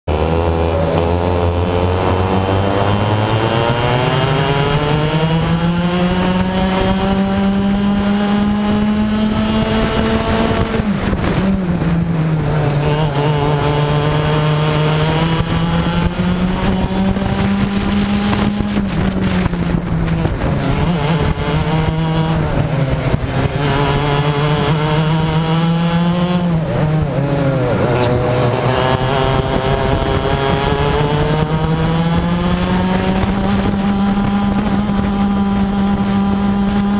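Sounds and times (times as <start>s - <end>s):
racing kart engine: 0.0s - 36.9s.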